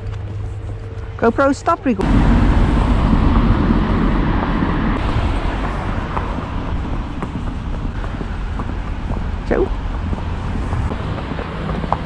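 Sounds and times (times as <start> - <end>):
rushing road traffic: 0.0 - 12.0.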